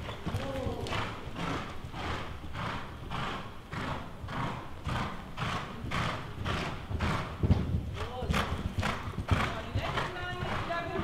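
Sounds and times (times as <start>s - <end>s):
horse cantering on sand: 0.0s - 11.0s.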